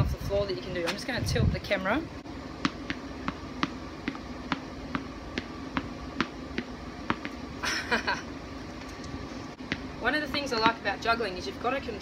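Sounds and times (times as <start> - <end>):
tennis balls bouncing on concrete: 1.8 - 12.0.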